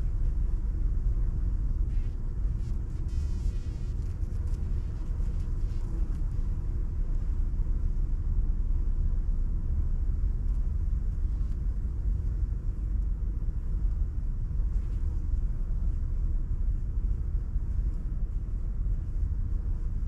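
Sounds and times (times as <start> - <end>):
fluttering low rumble: 0.0 - 20.0.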